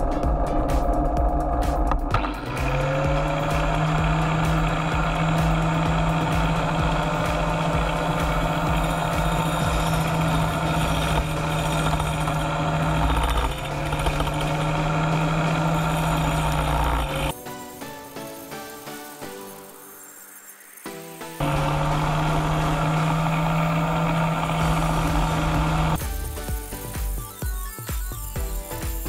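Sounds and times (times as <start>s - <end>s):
angle grinder cutting wood: 0.0s - 29.0s.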